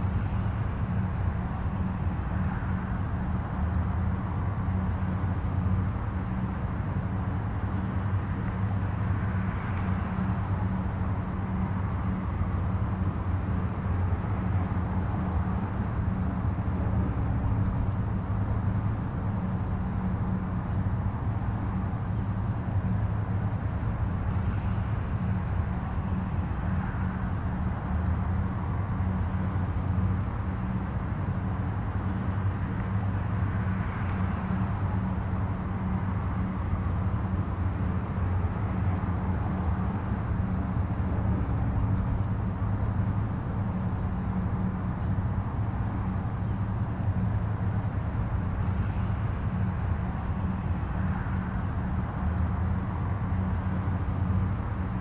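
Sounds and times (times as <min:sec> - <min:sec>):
distant highway traffic rumble: 0:00.0 - 0:55.0
vehicles passing: 0:00.0 - 0:55.0.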